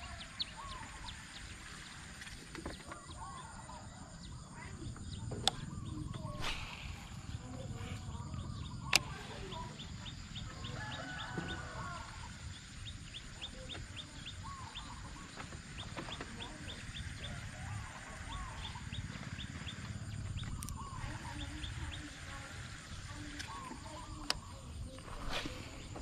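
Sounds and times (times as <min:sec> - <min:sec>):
low outdoor rumble: 0:03.0 - 0:26.0.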